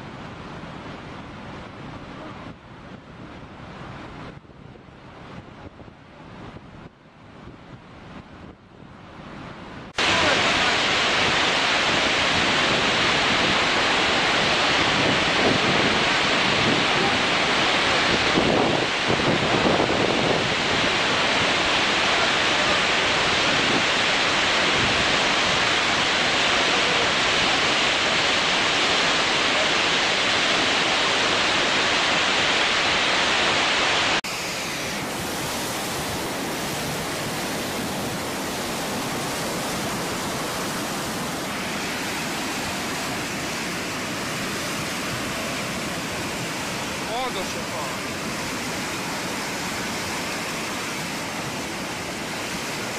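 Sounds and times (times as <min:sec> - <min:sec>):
floodwater torrent rushing: 0:09.6 - 0:52.9
water rushing through spillway: 0:09.9 - 0:52.9.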